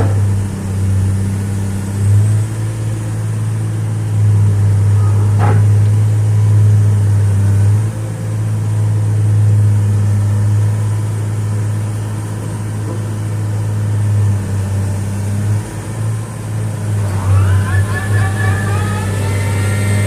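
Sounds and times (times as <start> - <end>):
excavator diesel engine humming: 0.0 - 20.0.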